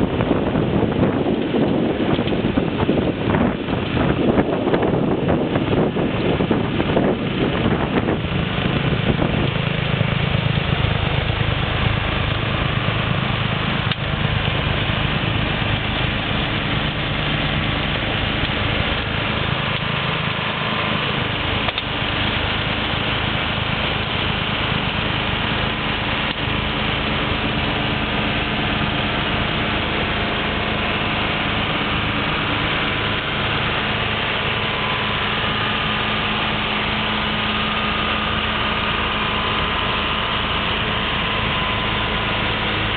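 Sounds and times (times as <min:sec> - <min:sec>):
snowblower rushing noise: 0:00.0 - 0:42.9
tractor diesel engine hum: 0:00.0 - 0:42.9.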